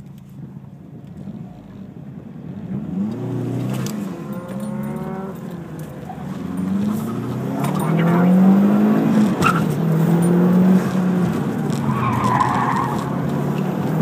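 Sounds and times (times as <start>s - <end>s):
car engine revving: 2.5s - 14.0s.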